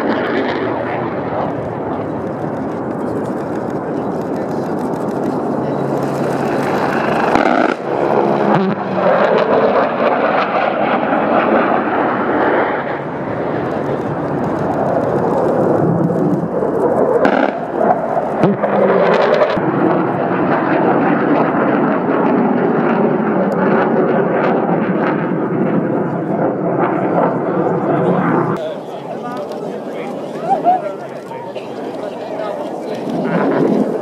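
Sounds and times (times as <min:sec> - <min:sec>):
fighter jet roaring past: 0:00.0 - 0:34.0.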